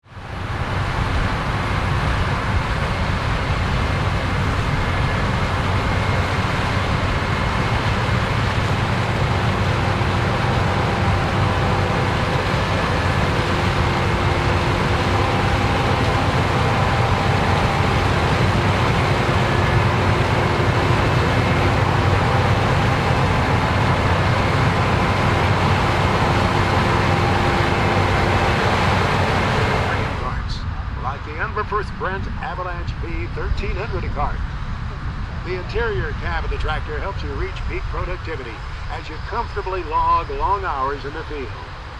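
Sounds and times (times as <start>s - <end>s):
diesel engine running under load: 0.0s - 41.9s
faint mechanical whines: 0.1s - 41.9s.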